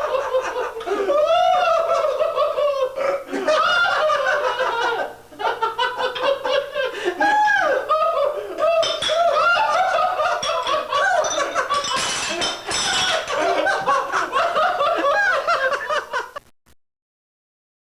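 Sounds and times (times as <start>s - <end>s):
women laughing: 0.0s - 16.4s.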